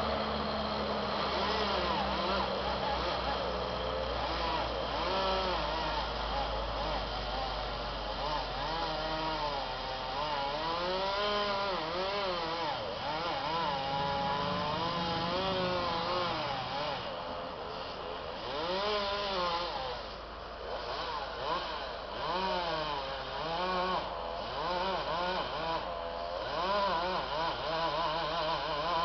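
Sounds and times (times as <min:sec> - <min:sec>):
chainsaw revving and cutting: 0:00.0 - 0:29.0.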